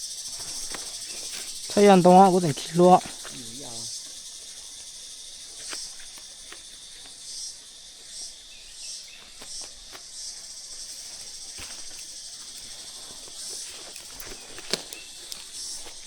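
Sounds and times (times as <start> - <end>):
insects shrilling: 0.0 - 16.0.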